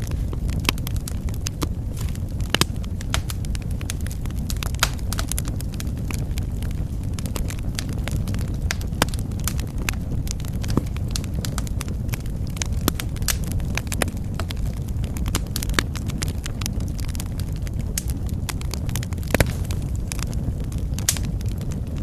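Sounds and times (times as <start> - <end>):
fire pops and snaps: 0.0 - 22.0
wood fire crackling: 0.0 - 22.0.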